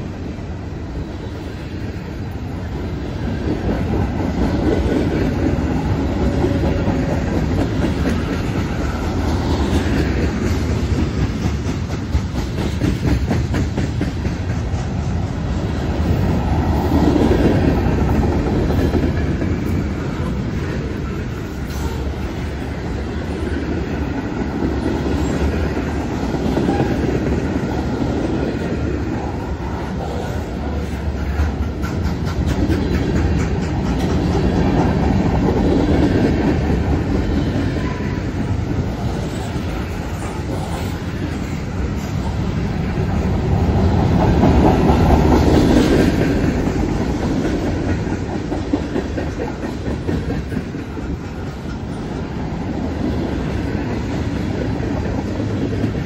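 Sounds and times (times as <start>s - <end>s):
steel wheels rumbling on rail: 0.0s - 56.0s
wheels clacking over rail joints: 2.0s - 56.0s.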